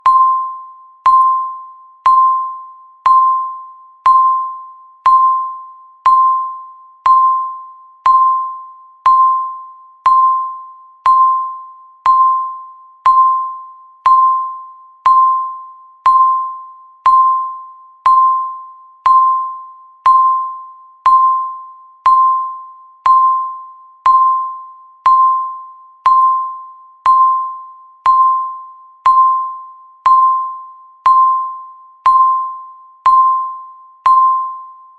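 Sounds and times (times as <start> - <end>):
electronic timer beep: 0.0 - 34.9.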